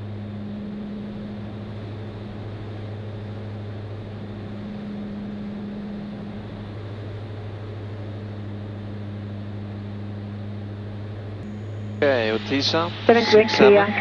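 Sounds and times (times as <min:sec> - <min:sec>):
airplane engines droning in cabin: 0:00.0 - 0:14.0.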